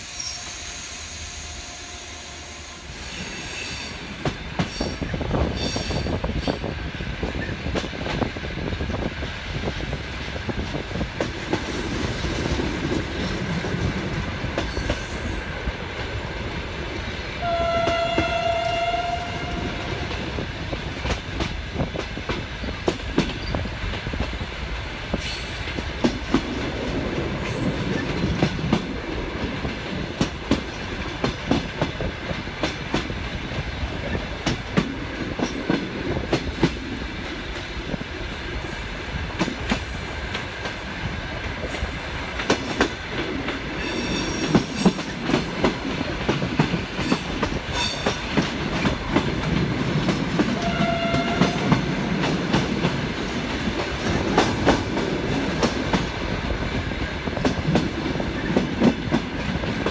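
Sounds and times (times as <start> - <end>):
train running rumble: 2.6 - 59.9.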